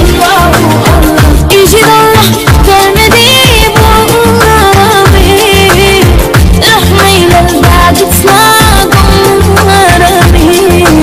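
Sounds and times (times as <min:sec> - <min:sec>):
deep drum beat: 0:00.0 - 0:10.6
person singing: 0:00.0 - 0:11.0.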